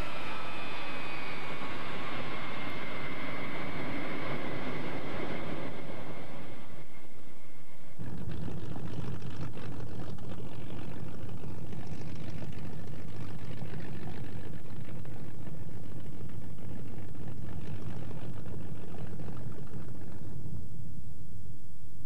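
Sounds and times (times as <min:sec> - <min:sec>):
propeller plane engines idling: 0:00.0 - 0:20.7.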